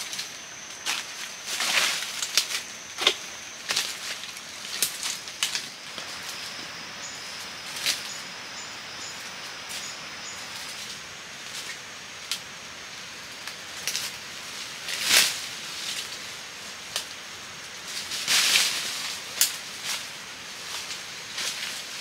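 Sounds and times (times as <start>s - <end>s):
leaves and twigs crackling underfoot: 0.0s - 22.0s.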